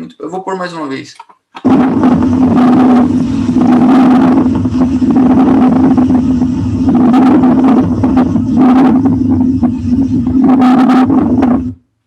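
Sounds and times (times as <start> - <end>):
moist lung crackles: 1.6 - 11.8
steady low hum: 1.6 - 12.0.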